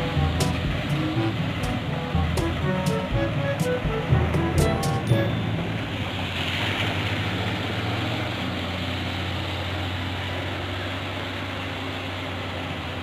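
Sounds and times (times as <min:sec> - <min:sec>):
constant rushing noise: 0:00.0 - 0:13.0.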